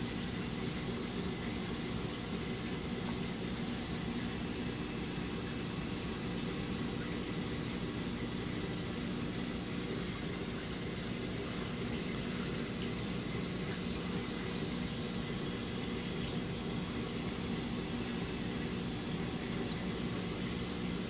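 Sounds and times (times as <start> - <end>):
aquarium pump hum: 0.0 - 21.0
running water: 0.0 - 21.0.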